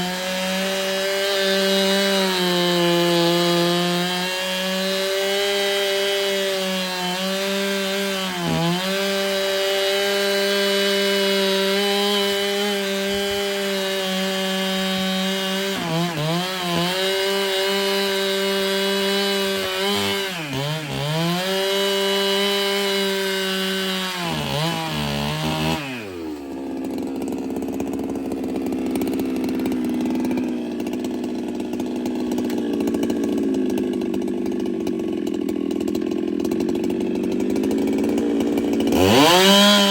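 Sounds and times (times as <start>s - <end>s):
chainsaw running at full throttle: 0.0s - 39.9s.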